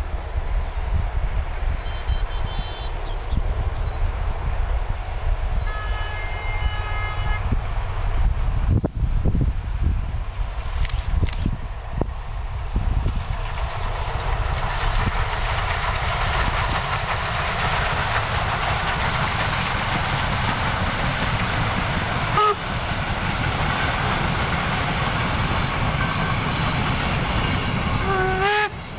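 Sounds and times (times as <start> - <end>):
steam train rumbling past: 0.0 - 28.9.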